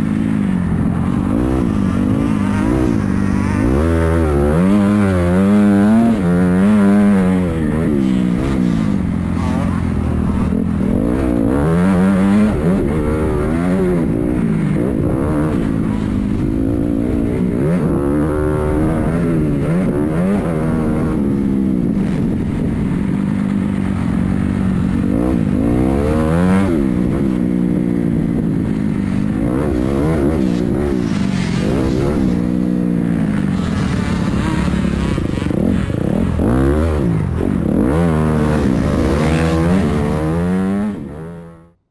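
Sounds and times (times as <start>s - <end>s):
dirt bikes revving: 0.0s - 41.6s.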